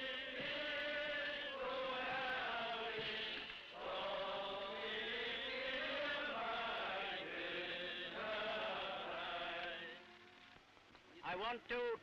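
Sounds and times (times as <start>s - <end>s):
many voices chanting: 0.0s - 10.1s.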